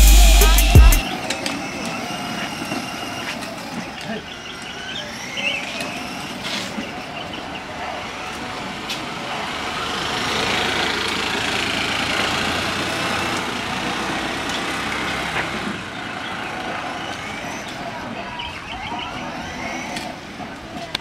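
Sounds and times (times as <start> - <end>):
car engine approaching: 0.0 - 21.0.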